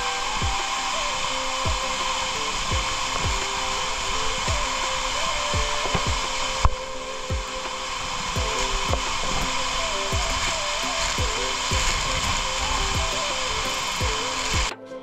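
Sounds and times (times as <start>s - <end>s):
waterfall roaring onto rocks: 0.0s - 14.7s
background music with bass beat: 0.0s - 15.0s.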